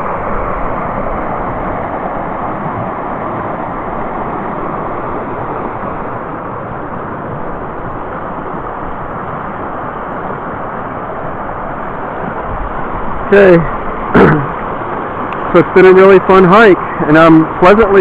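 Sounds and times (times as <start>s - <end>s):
brook water rushing: 0.0s - 18.0s.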